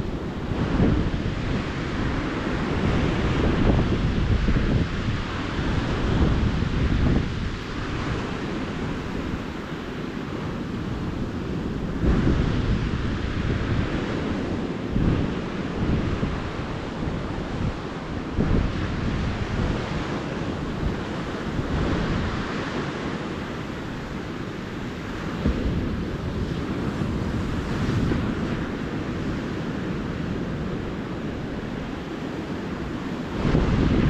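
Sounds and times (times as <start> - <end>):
ocean surf washing onto beach: 0.0 - 34.0
wind buffeting microphone: 0.0 - 34.0.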